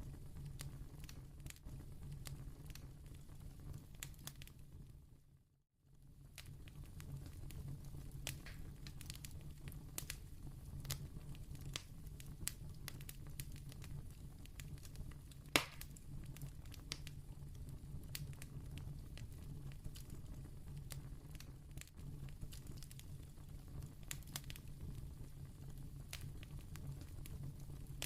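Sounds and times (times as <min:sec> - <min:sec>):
candle flame crackling: 0:00.0 - 0:28.0.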